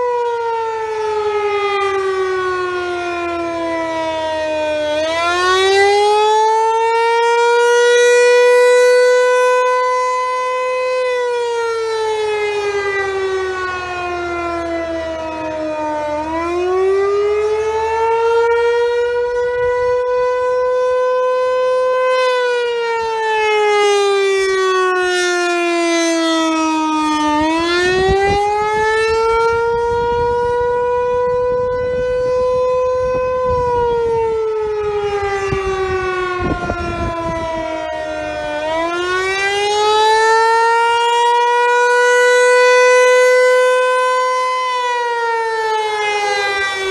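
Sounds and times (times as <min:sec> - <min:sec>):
siren wailing: 0:00.0 - 0:46.9.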